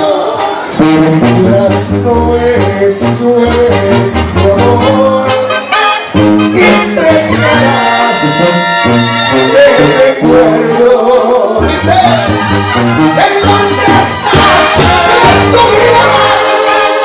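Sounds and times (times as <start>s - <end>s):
trombones: 0.0s - 17.0s
tuba bass line: 0.0s - 17.0s
held brass chord: 0.1s - 17.0s.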